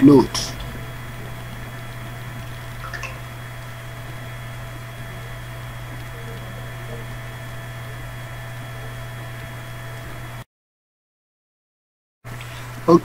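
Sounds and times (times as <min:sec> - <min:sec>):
low hum: 0:00.0 - 0:10.4
room noise hiss: 0:00.0 - 0:10.4, 0:12.3 - 0:13.0.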